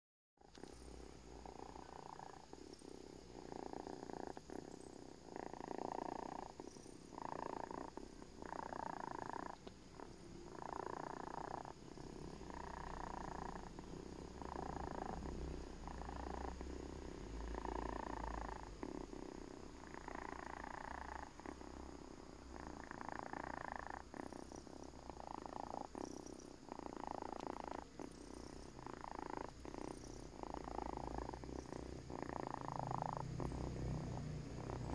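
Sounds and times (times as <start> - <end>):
pet snoring: 0.4 - 34.9.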